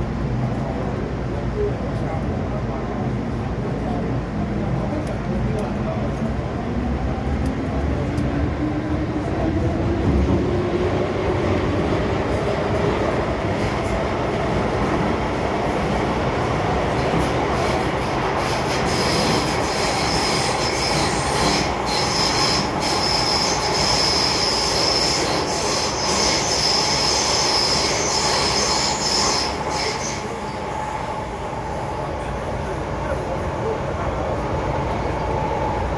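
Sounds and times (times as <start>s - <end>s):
train rumble: 0.0s - 35.9s.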